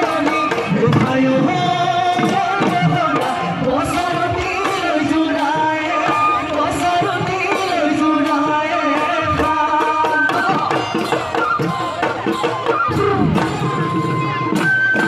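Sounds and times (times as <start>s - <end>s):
drums beating: 0.0s - 15.0s
people singing: 0.0s - 15.0s.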